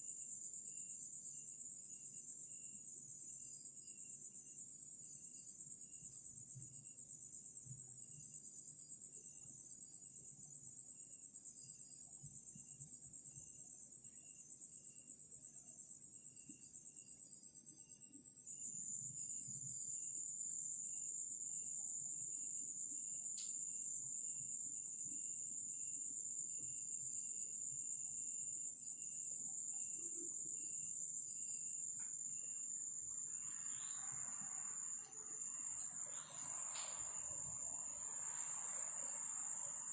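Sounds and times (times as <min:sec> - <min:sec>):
cricket high-pitched trill: 0:00.0 - 0:39.9
lower insect chirping: 0:00.0 - 0:39.9.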